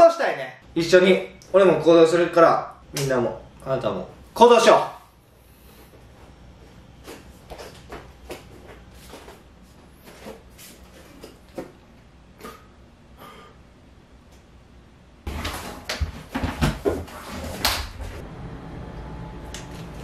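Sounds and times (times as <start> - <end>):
steady low hum: 0.6 - 20.0.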